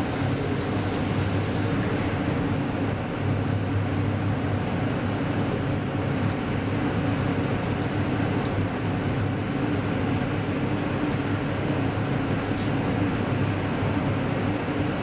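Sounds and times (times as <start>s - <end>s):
elevator rumble and hum: 0.0s - 15.0s.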